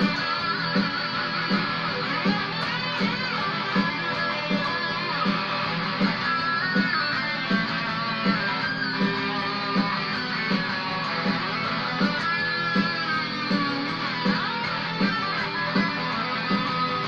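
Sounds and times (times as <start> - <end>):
electric guitar lead line: 0.0 - 17.0.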